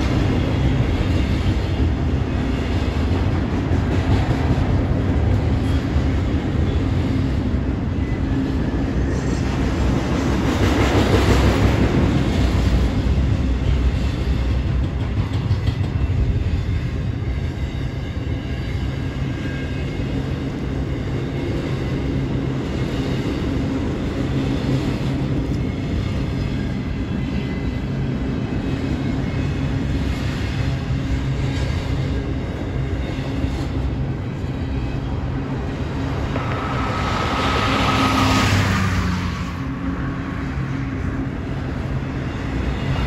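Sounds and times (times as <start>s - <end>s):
steel wheels rumbling on rail: 0.0s - 43.0s.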